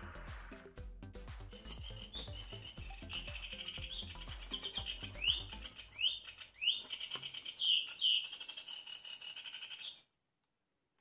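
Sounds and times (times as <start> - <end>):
recorded bird song from speaker: 1.3 - 10.2.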